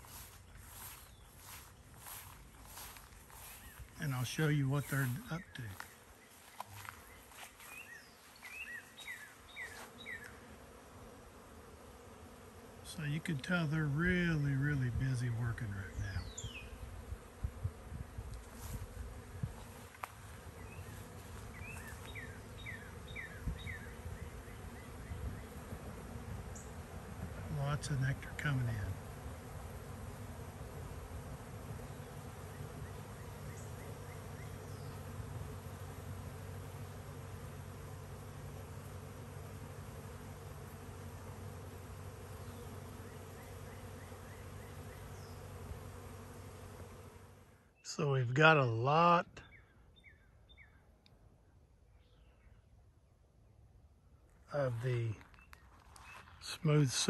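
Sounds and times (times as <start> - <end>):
bees humming: 0.0 - 50.8
honeybees buzzing: 0.0 - 50.8, 51.6 - 57.0.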